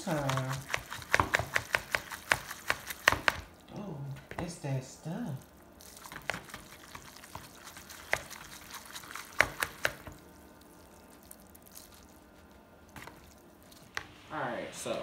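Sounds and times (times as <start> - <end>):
fork stirring wet noodles: 0.0 - 3.6, 5.4 - 14.0.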